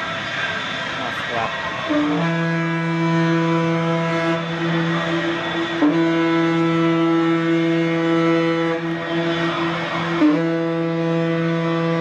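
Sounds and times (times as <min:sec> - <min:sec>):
rushing noise: 0:00.0 - 0:12.0
ship's horn long low blast: 0:00.0 - 0:12.0.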